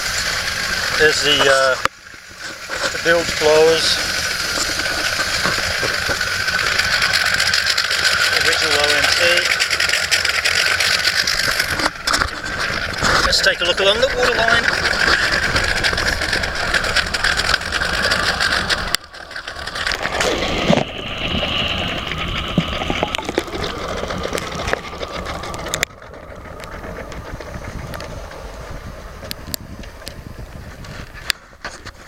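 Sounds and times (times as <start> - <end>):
boat engine running: 0.0 - 32.0
water and wind rushing: 0.0 - 32.0.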